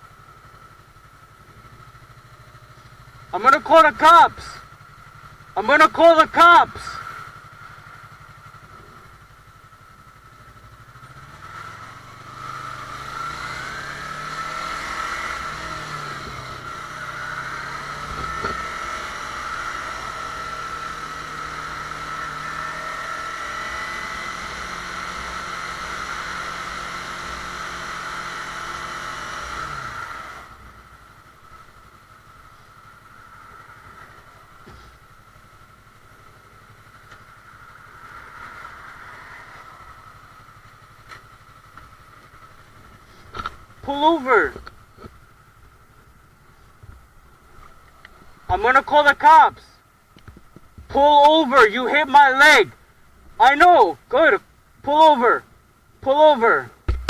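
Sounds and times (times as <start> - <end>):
motorcycle engine revving: 0.0 - 49.5.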